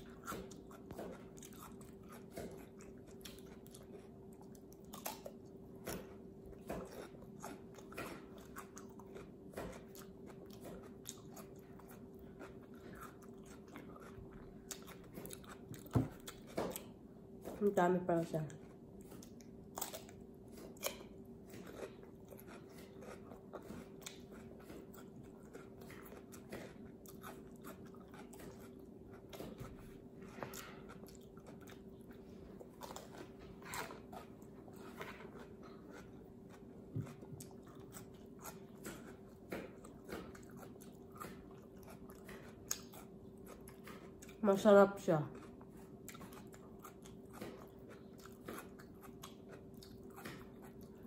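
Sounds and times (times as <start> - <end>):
chewing and crunching cucumber: 0.0 - 51.0
faint steady hum: 0.0 - 51.0.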